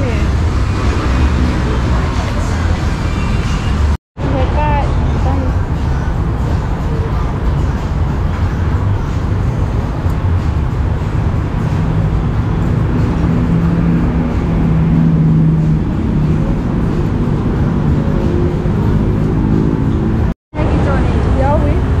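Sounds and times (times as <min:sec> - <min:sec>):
road traffic rumble: 0:00.0 - 0:22.0
vehicle engine hum: 0:00.0 - 0:22.0.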